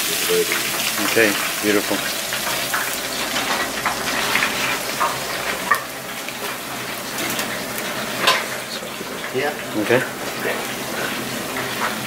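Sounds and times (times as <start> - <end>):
oil sizzling in deep fryer: 0.0 - 12.0.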